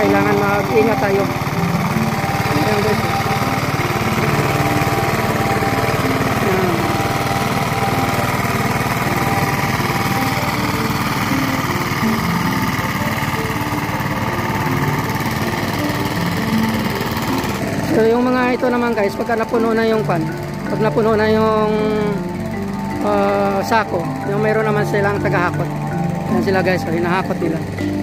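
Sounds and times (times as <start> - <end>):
combine harvester engine running: 0.0 - 28.0.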